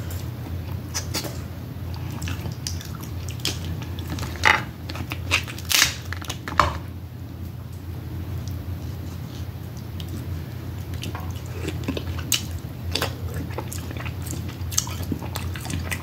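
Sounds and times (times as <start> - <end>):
steady low hum: 0.0 - 16.0
crab eating and chewing: 0.1 - 6.2, 8.9 - 16.0.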